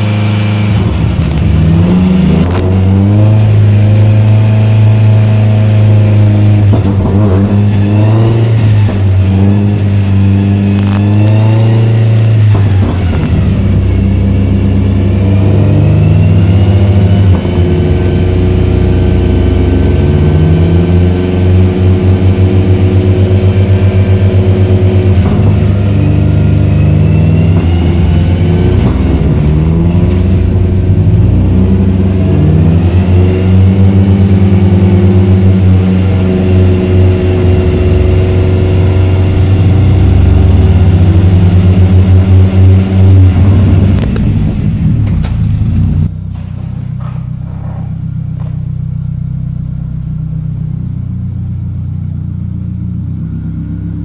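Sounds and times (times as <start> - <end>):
car engine revving hard: 0.0 - 46.2.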